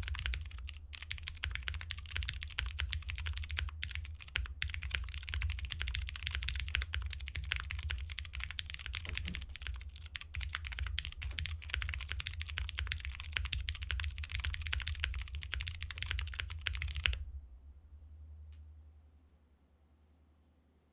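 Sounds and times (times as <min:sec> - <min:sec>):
typing on mechanical keyboard: 0:00.0 - 0:17.2
faint low hum: 0:00.0 - 0:20.9.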